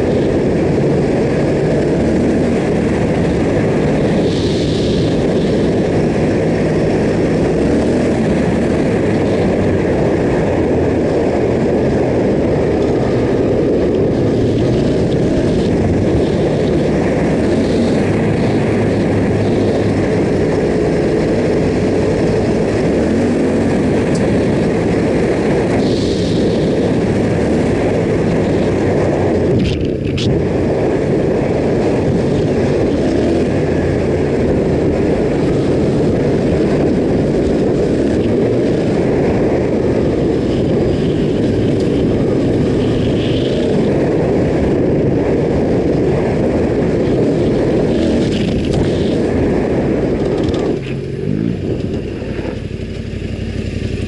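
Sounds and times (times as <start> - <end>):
motorcycle engine running: 0.0 - 54.0
steady rushing noise: 0.0 - 54.0.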